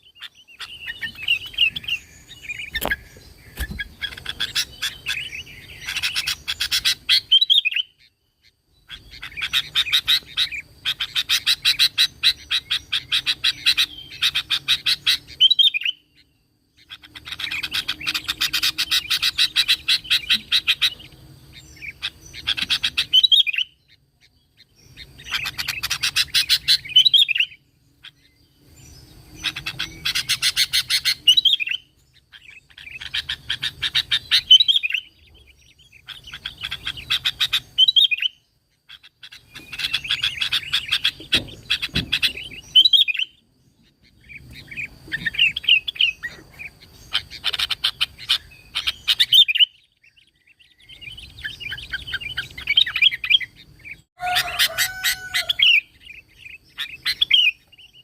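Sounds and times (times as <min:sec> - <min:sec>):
bulbul singing: 0:00.0 - 0:58.0.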